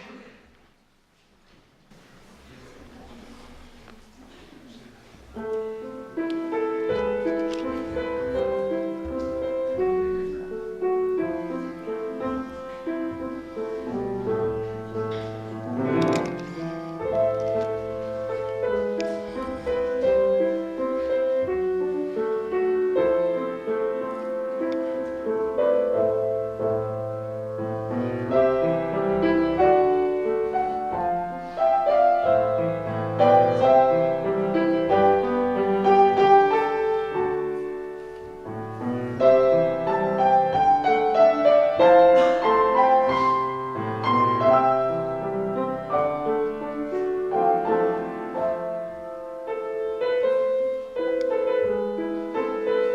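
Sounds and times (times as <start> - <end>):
slow piano piece: 1.9 - 52.9.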